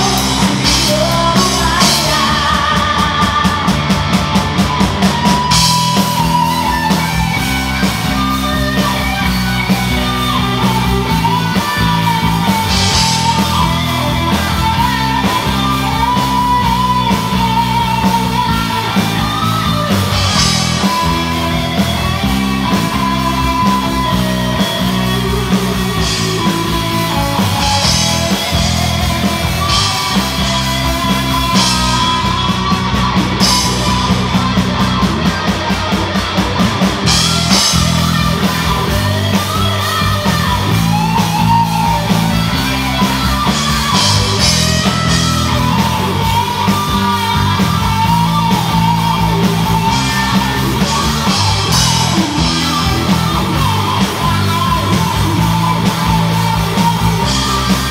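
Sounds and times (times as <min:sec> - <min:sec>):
electric guitar: 0:00.0 - 0:57.9
live rock band playing: 0:00.0 - 0:57.9.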